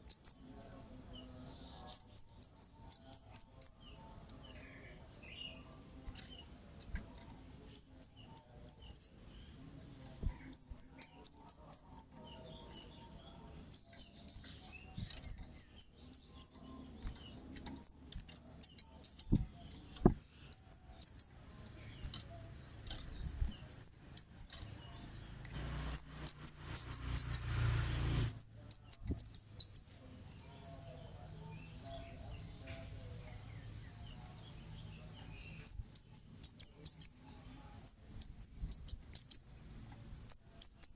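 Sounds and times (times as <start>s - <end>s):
bird chirping: 0.0s - 39.6s, 40.3s - 40.9s.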